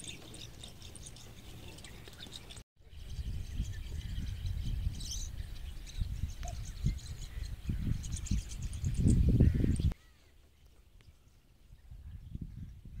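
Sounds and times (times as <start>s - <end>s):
bird chirps: 0.0s - 12.7s.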